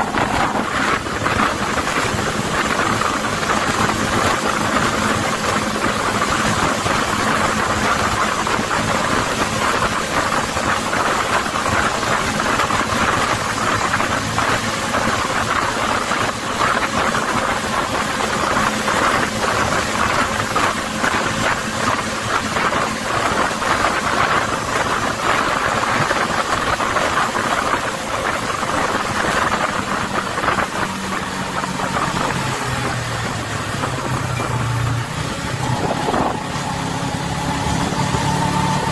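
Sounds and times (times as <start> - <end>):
bus engine running at speed: 0.0 - 38.9
road and wind noise: 0.0 - 38.9.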